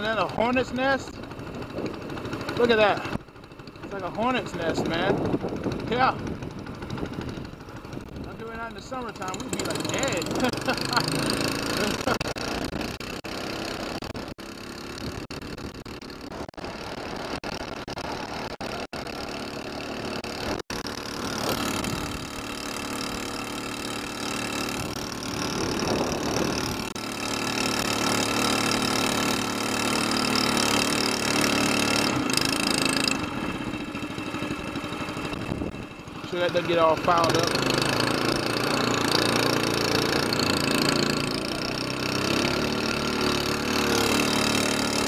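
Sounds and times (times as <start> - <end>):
boat motor running: 0.0 - 45.0.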